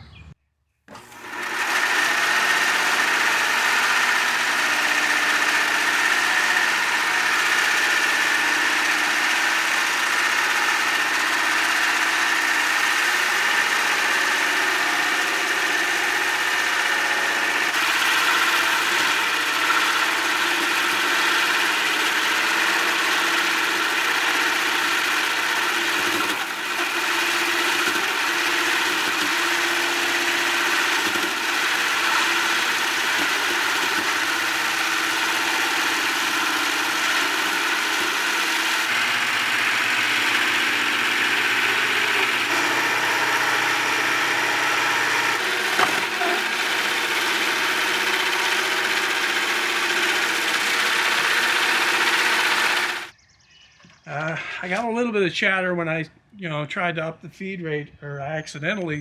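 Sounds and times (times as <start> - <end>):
band saw cutting log: 0.9 - 53.1.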